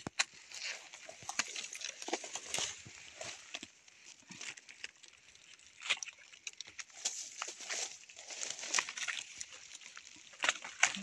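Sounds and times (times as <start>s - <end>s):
rustling and crackling undergrowth: 0.0s - 11.0s.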